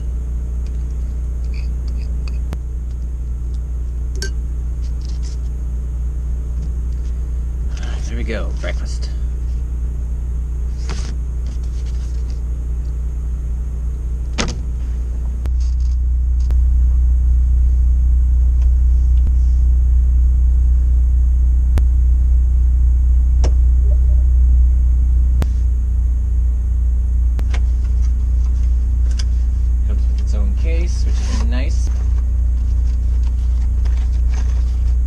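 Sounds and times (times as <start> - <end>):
engine idling rumble: 0.0 - 35.0.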